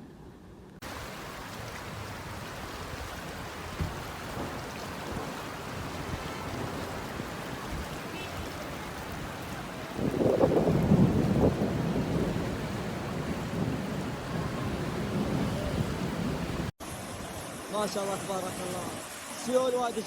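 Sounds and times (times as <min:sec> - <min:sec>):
rushing water from heavy rain: 0:00.8 - 0:20.0.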